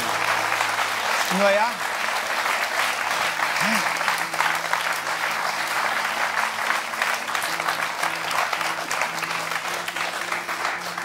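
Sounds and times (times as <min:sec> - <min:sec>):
music playing held notes: 0:00.0 - 0:11.0
studio audience applauding: 0:00.0 - 0:11.0.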